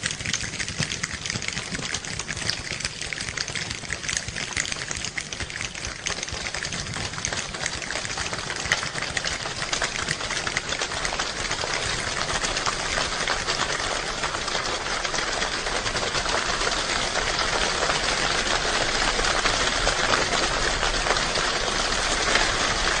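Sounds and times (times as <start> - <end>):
rain pattering on a roof: 0.0 - 23.0.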